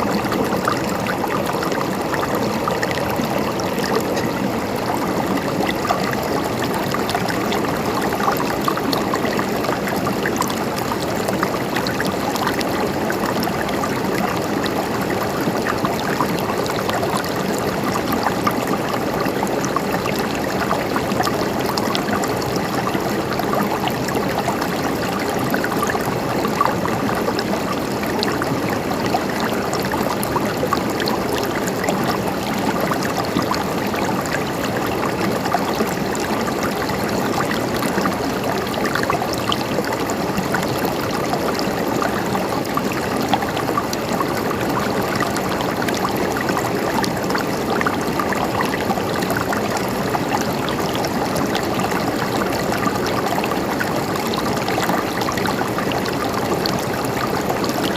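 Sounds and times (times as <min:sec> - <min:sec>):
river water flowing over stones: 0:00.0 - 0:57.9.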